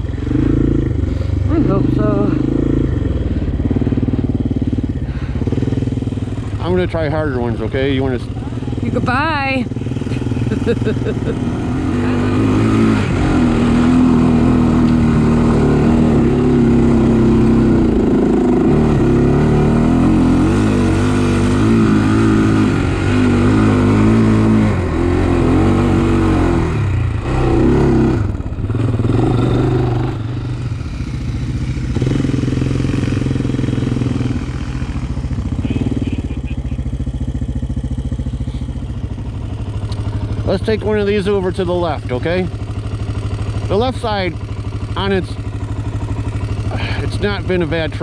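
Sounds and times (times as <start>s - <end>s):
quad engine revving: 0.0s - 48.0s.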